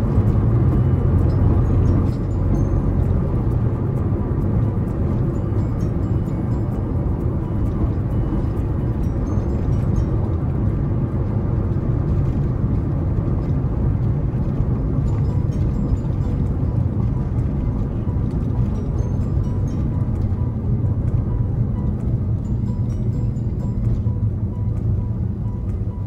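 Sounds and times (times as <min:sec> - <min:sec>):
car exhaust drone: 0:00.0 - 0:26.0
road noise: 0:00.0 - 0:26.0.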